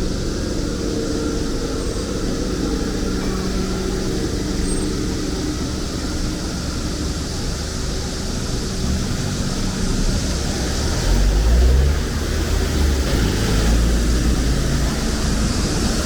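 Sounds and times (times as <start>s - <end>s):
cicadas droning: 0.0s - 16.0s
traffic and engine hum: 0.0s - 16.0s.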